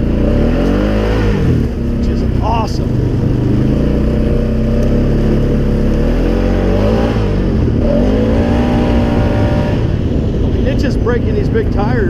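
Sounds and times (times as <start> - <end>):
atv engine running hard: 0.0 - 12.0.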